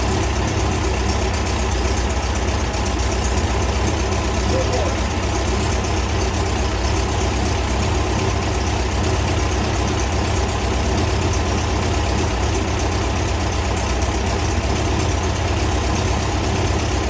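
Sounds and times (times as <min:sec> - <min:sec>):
air-cooled engine idling: 0:00.0 - 0:17.0.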